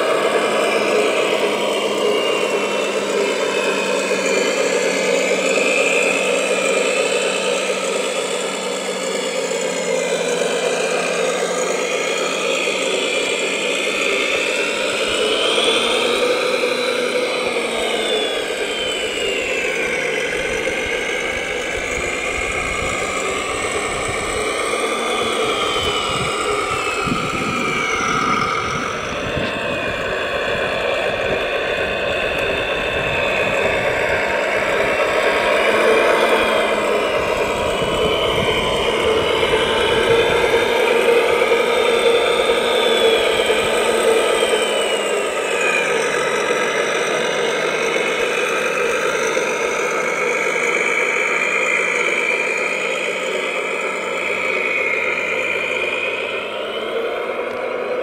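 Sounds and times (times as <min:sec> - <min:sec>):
electric gear motors whining: 0:00.0 - 0:58.0.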